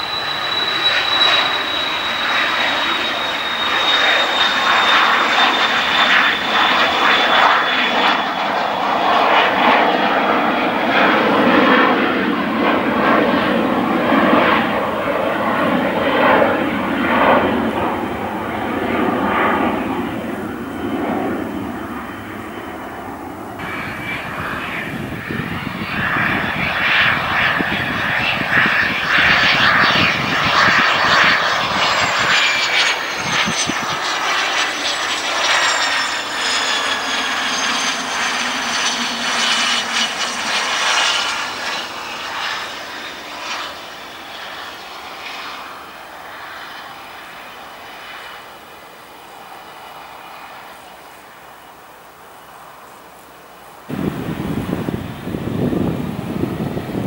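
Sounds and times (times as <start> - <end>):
high jet engine whine: 0.0 - 57.0
jet engines roaring at takeoff: 0.0 - 57.0.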